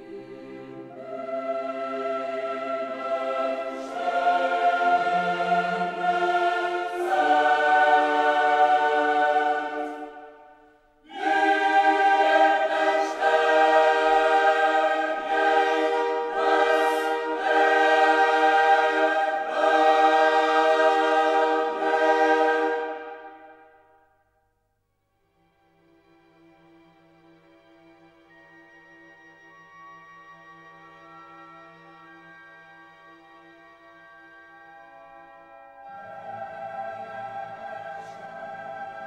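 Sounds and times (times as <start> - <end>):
choir singing sustained chords: 0.0 - 24.2, 28.6 - 39.0.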